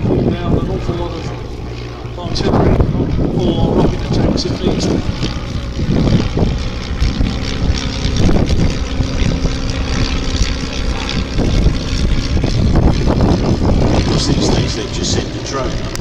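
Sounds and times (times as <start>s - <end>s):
propeller planes droning overhead: 0.0s - 16.0s.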